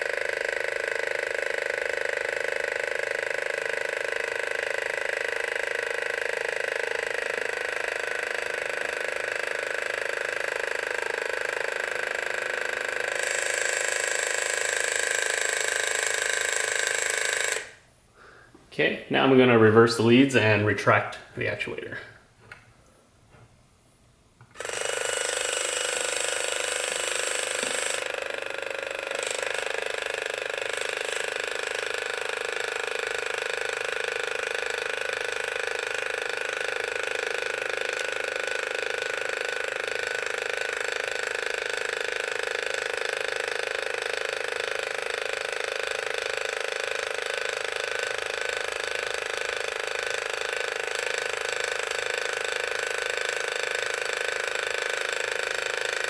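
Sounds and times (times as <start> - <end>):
geared motor whirring: 0.0 - 17.8, 24.4 - 56.0.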